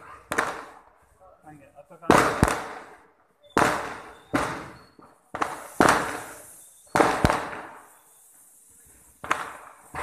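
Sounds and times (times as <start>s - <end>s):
fireworks bangs: 0.0s - 1.1s, 1.9s - 10.0s.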